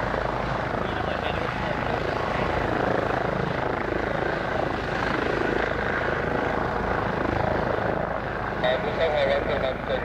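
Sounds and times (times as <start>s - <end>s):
jet engines on approach: 0.0s - 10.0s.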